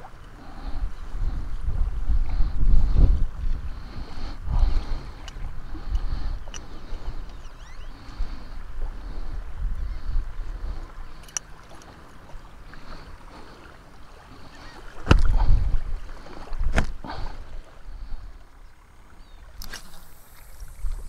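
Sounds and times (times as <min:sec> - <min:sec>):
wind buffeting microphone: 0:00.0 - 0:13.2, 0:14.1 - 0:18.5
small waves lapping shore: 0:00.0 - 0:21.0.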